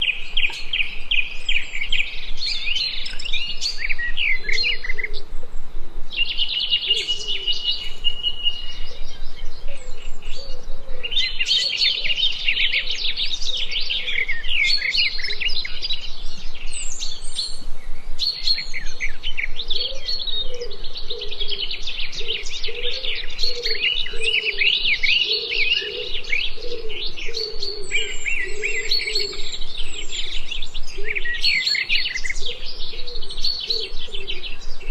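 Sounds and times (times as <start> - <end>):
lower bird call: 0.0 - 34.9
songbirds chirping and trilling: 0.0 - 34.9.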